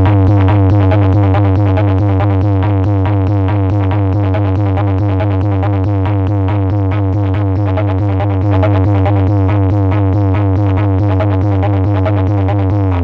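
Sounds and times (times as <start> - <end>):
electronic dance music with heavy bass: 0.0 - 13.0.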